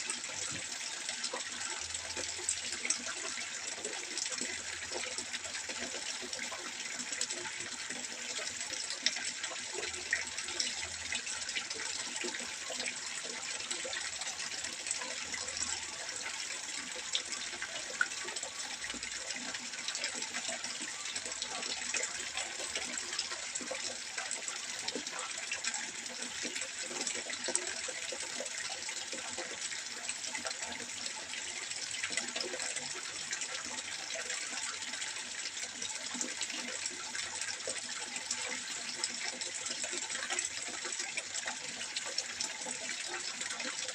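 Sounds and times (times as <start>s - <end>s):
water trickling into a pond: 0.0s - 43.9s.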